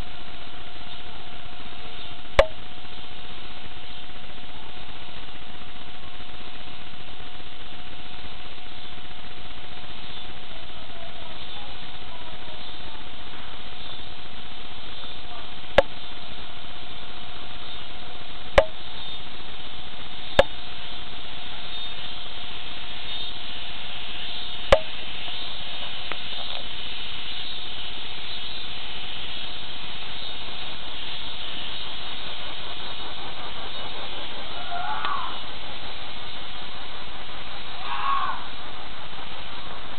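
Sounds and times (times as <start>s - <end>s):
faint constant whine: 0.0s - 39.9s
steady hiss: 0.0s - 39.9s.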